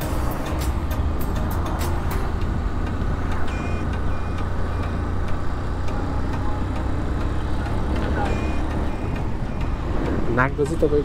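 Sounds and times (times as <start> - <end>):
motorcycle engine running: 1.0 - 11.0.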